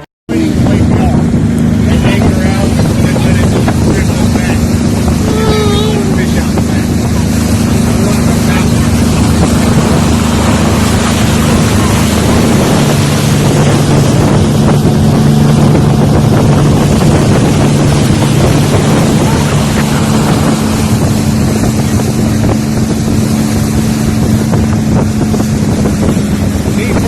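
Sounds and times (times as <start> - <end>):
motorboat engine running: 0.3 - 27.0
rushing water: 0.3 - 27.0
wind buffeting microphone: 0.3 - 27.0.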